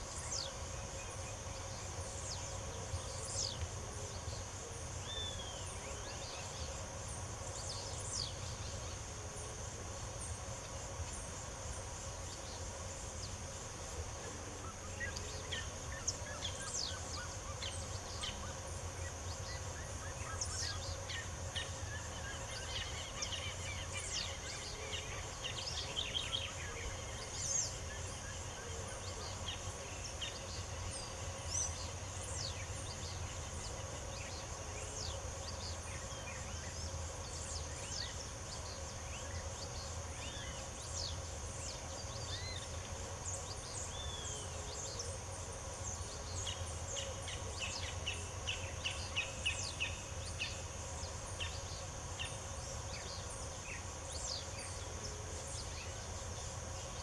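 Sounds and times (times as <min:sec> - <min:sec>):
high insect trill: 0:00.0 - 0:57.0
low background hum: 0:00.0 - 0:57.0.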